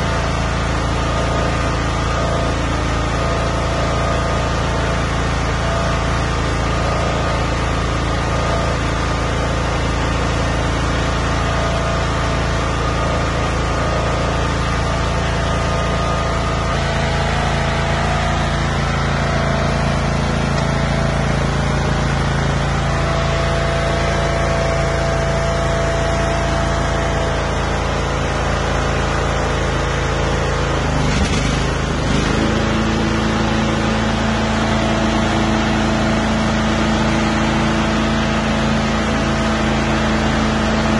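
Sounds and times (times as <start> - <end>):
lawn tractor engine running: 0.0 - 40.9.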